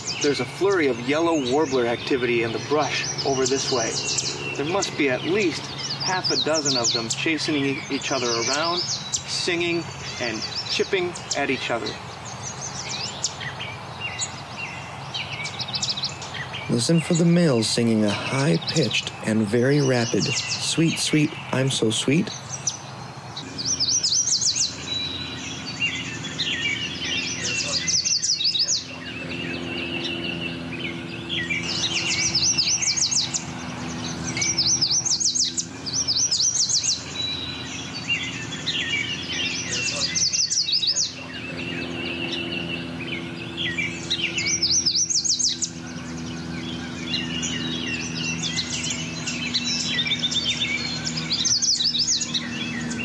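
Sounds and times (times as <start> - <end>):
bird chipping notes: 0.0 - 53.0
steady low hum: 0.0 - 53.0
warblers singing: 0.0 - 53.0.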